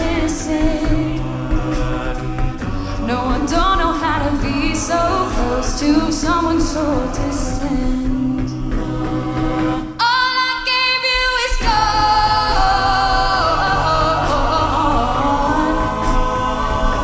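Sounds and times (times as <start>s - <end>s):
a cappella group singing: 0.0s - 17.0s.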